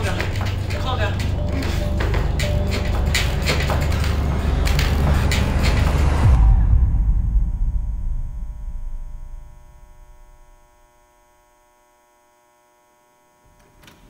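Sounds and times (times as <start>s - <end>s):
deep low rumble: 0.0s - 11.3s.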